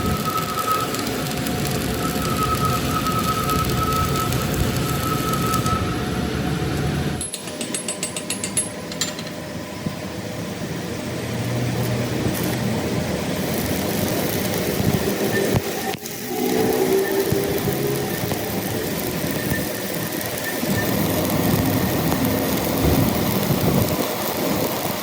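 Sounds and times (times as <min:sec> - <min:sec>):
workshop machinery noise: 0:00.0 - 0:25.0.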